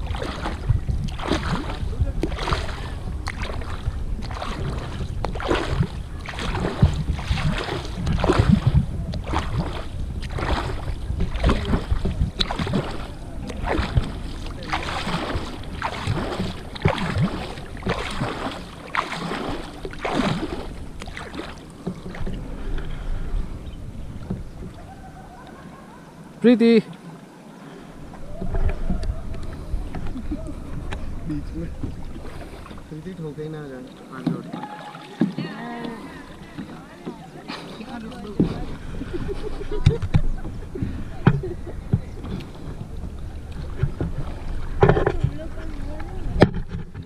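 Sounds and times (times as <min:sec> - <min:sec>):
paddle splashing in water: 0:00.0 - 0:47.0.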